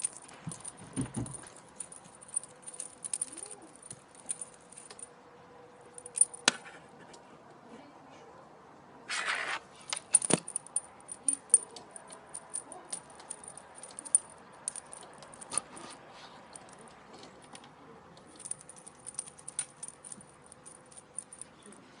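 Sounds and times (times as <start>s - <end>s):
light metallic jingling and clicking: 0.0s - 5.2s, 5.8s - 6.5s, 9.9s - 22.0s.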